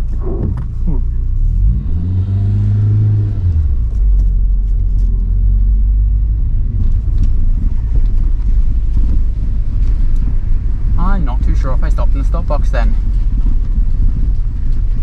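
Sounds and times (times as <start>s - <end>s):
car engine drone inside cabin: 0.0s - 15.0s.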